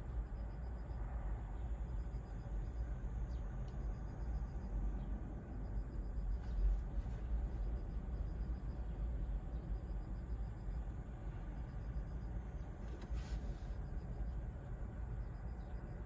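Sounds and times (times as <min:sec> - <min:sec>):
insects chirping: 0:00.0 - 0:16.0
wind: 0:00.0 - 0:16.0.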